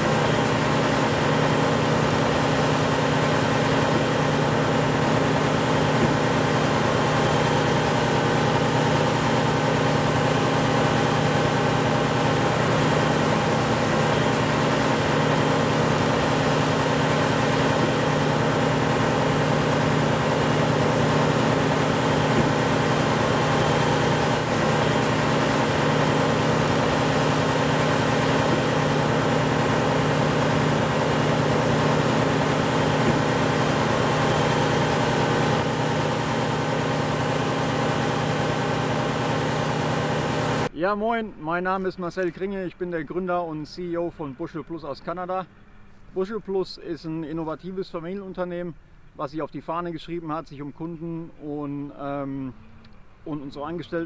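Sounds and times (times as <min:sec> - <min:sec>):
engine idling hum: 0:00.0 - 0:40.8, 0:41.8 - 0:54.0.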